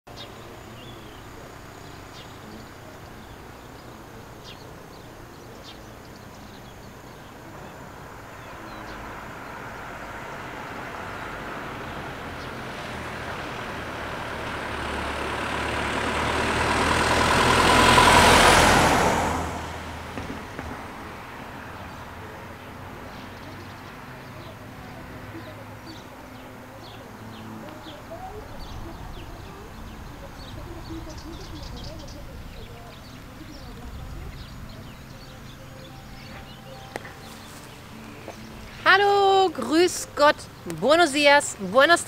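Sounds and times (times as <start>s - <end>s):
motor vehicle passing: 0.1s - 42.0s.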